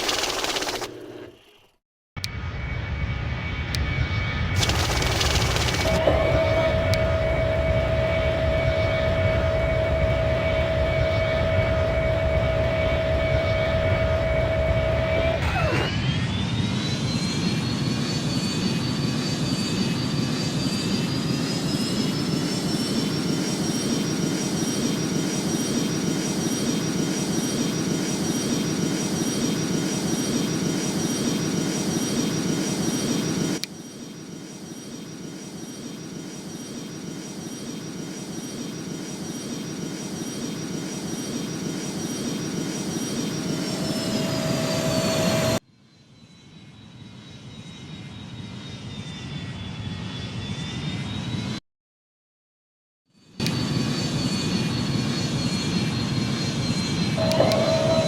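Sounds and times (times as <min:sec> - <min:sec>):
jet engines high whine: 0:00.0 - 0:51.6, 0:53.2 - 0:58.0.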